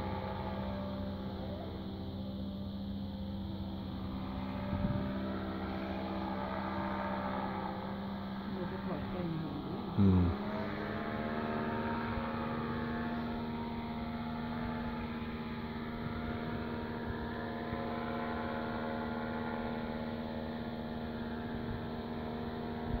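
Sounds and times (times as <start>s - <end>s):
aircraft engine and propeller droning: 0.0s - 23.0s.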